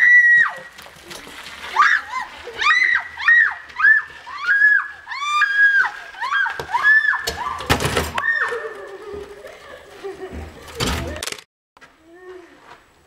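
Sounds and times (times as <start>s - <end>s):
wheelbarrow squeaking: 0.2s - 11.2s.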